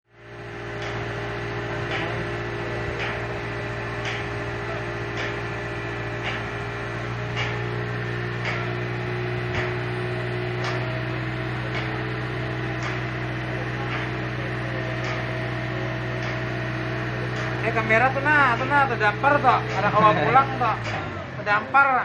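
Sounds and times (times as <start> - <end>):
steady machine hum: 0.1 - 22.0.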